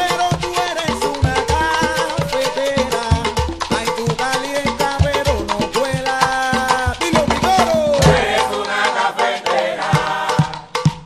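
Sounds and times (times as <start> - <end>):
salsa music: 0.0 - 11.0.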